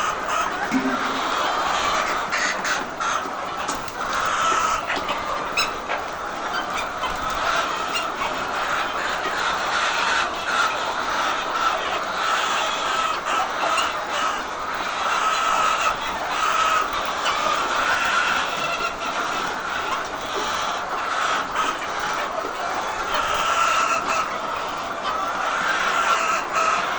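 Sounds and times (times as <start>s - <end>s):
hens clucking: 0.0s - 26.9s.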